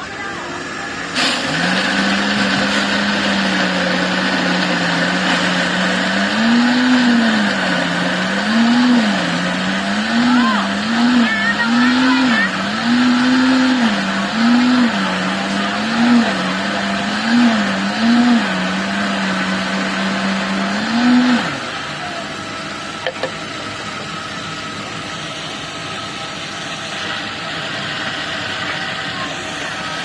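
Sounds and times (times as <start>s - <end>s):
blender motor running: 0.0s - 30.0s.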